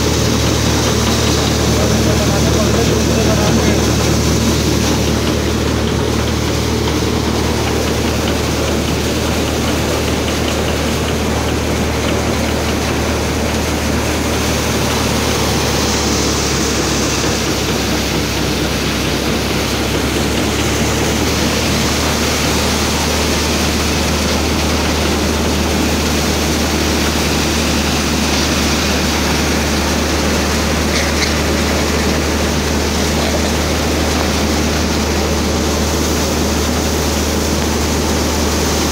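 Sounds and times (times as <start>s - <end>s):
threshing machine running: 0.0s - 38.9s.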